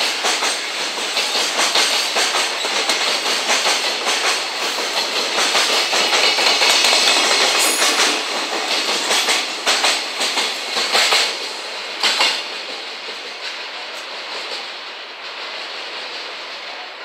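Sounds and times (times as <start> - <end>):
train wheels clacking on rails: 0.0 - 17.0.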